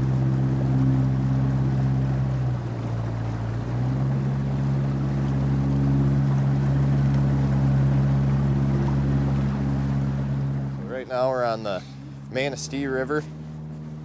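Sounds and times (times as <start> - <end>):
outboard motor running: 0.0 - 14.0
water rushing around hull: 0.0 - 14.0.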